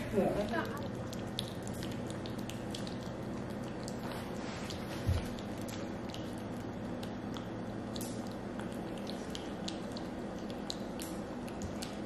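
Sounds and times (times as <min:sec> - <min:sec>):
low background hum: 0:00.0 - 0:12.0
puppy chewing: 0:00.4 - 0:12.0.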